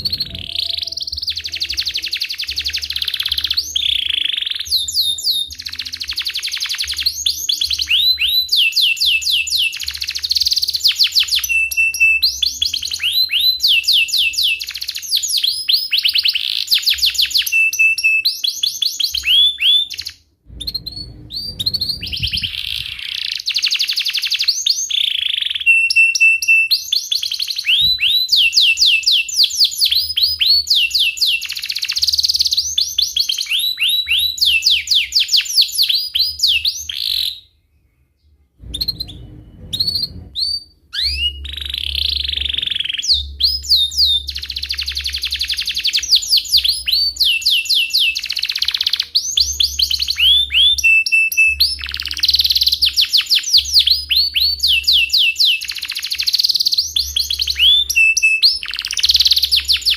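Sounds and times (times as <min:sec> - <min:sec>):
canary singing trills: 0:00.0 - 0:37.6, 0:38.3 - 0:59.9.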